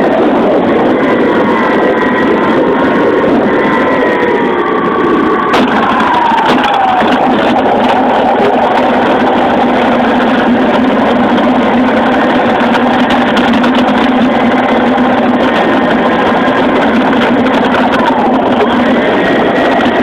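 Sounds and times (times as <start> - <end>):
high tone sliding down: 0.0 - 20.0
model plane motor running: 0.0 - 20.0
wind rushing over microphone: 0.0 - 20.0.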